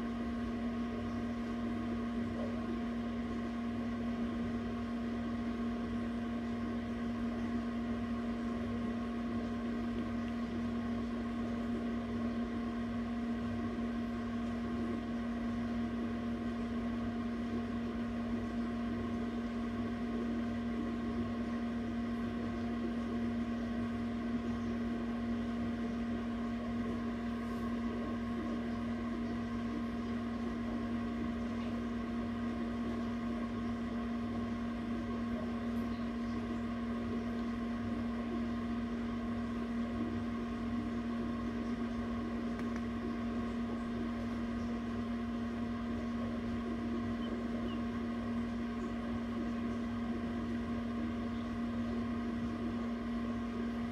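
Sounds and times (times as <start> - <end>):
incubator fan motor humming: 0.0 - 53.9.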